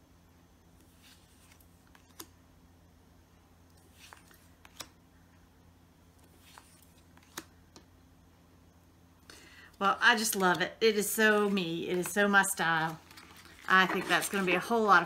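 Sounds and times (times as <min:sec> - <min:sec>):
faint low room hum: 0:00.0 - 0:15.0.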